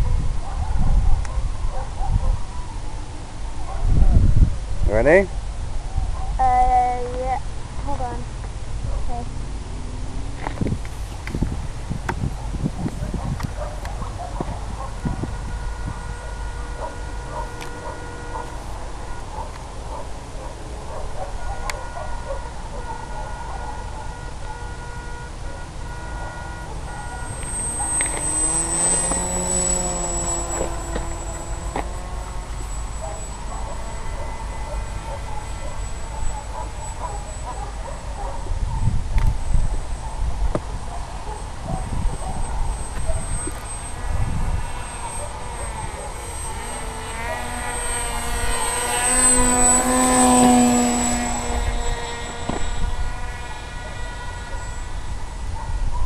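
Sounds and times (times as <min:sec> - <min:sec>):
model plane motor whining: 0:06.4 - 0:56.0.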